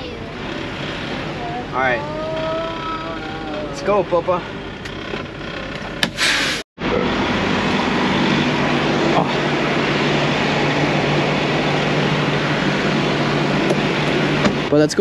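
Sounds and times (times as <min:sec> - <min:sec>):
diesel truck engine idling: 0:00.0 - 0:14.8.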